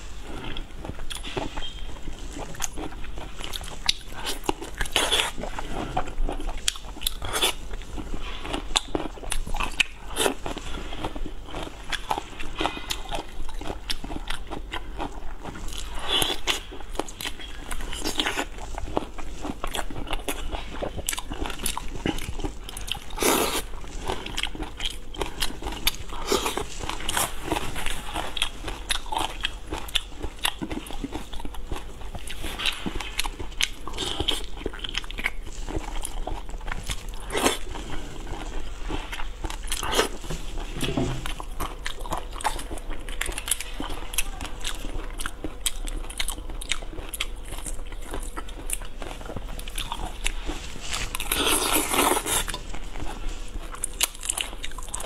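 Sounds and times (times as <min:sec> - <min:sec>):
close-miked chewing with clicks: 0:00.0 - 0:55.0.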